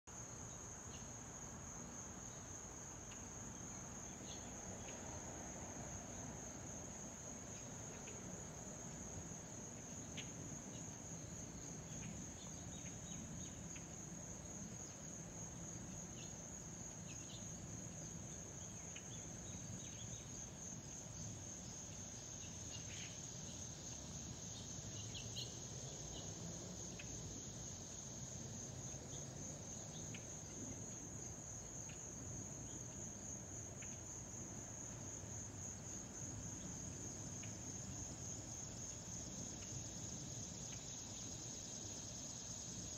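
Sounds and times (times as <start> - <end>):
insects chirring: 0.1 - 42.9.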